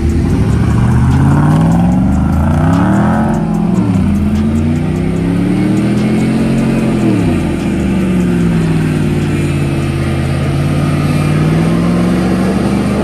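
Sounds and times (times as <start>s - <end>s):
engines revving hard: 0.0s - 13.0s.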